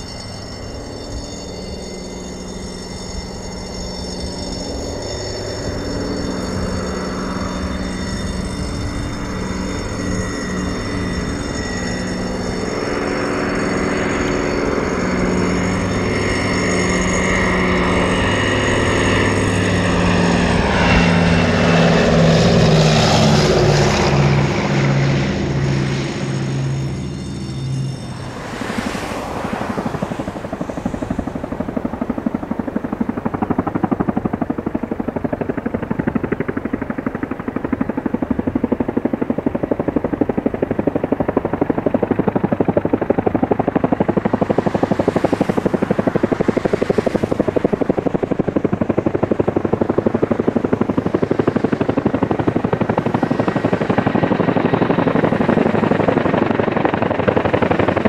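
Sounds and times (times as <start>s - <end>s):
helicopter rotors chopping: 0.0s - 58.0s.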